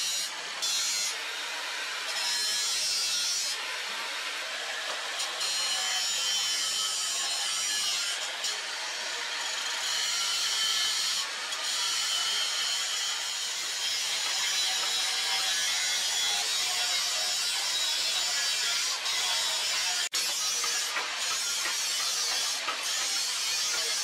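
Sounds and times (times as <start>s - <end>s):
angle grinder grinding steel: 0.0s - 24.0s.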